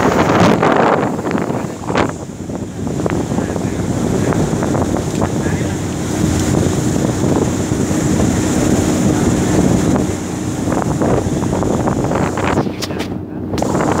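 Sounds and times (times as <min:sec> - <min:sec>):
boat engine drone: 0:00.0 - 0:14.0
rushing water: 0:00.0 - 0:14.0
wind buffeting microphone: 0:00.0 - 0:14.0.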